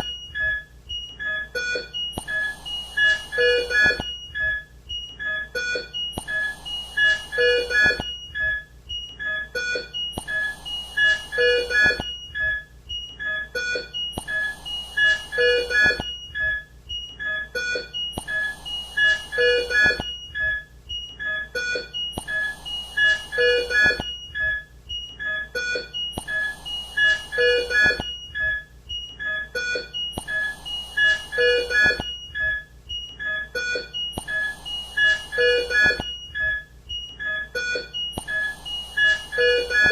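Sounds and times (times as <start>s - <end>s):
patient monitor beeps: 0.0s - 39.9s.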